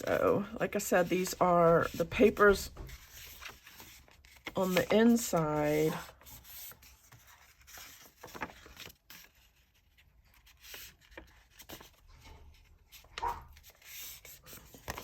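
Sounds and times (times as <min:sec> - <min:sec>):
paper rustling: 0:00.0 - 0:15.0.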